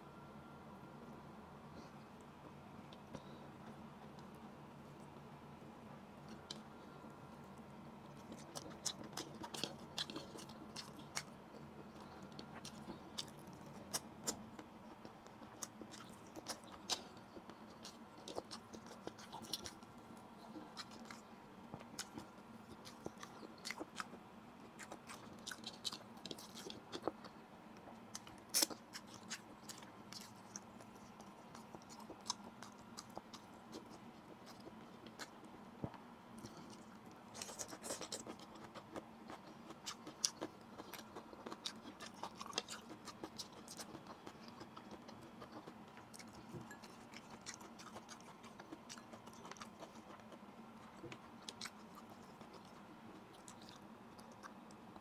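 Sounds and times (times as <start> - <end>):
person chewing food: 6.2 - 55.0.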